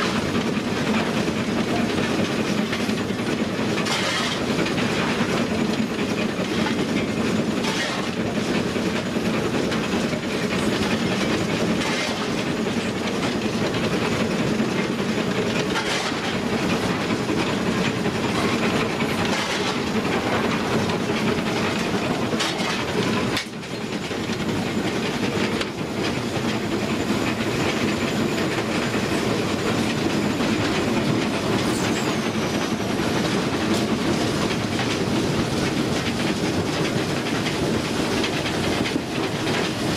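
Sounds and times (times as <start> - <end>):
steam locomotive engine running: 0.0 - 39.9.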